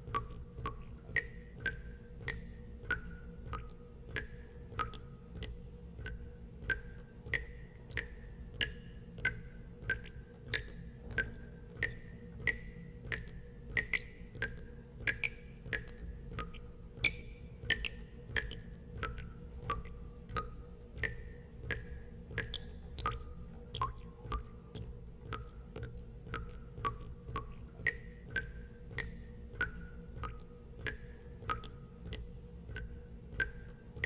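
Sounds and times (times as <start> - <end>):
water drops plinking into water: 0.0 - 34.0.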